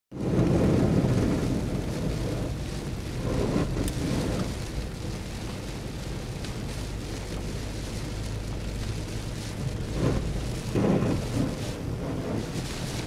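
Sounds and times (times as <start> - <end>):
car driving on wet road: 0.1 - 13.0
rain: 0.1 - 13.0.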